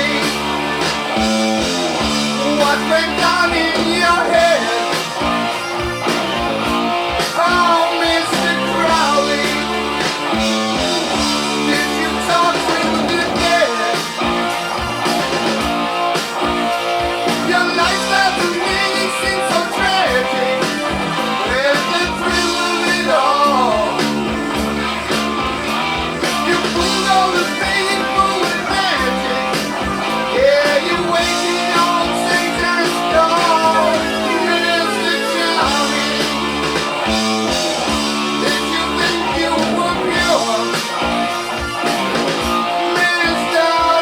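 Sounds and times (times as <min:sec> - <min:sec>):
man singing: 0:00.0 - 0:05.6, 0:07.0 - 0:14.6, 0:17.0 - 0:44.0
electric guitar: 0:00.0 - 0:44.0.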